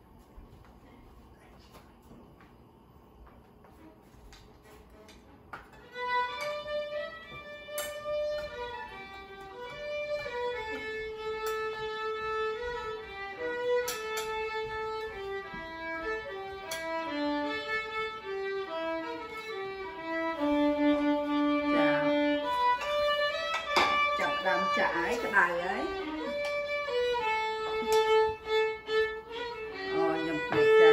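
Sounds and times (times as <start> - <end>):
slow violin melody: 4.8 - 30.9.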